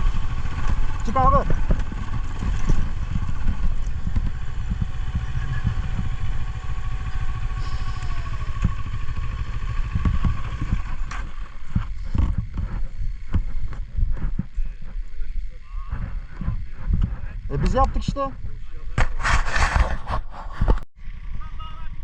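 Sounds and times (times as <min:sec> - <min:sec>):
motorcycle engine rumbling: 0:00.0 - 0:20.2, 0:21.0 - 0:22.0.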